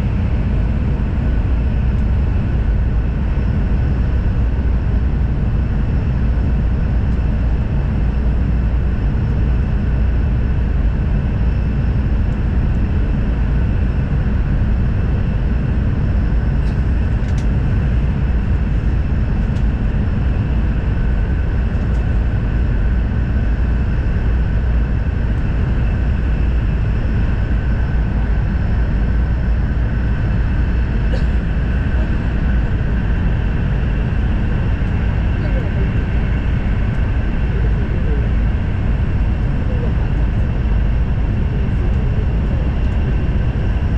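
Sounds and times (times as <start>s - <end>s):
faint steady whine: 0.0s - 43.9s
train cabin deep rumble: 0.0s - 43.9s.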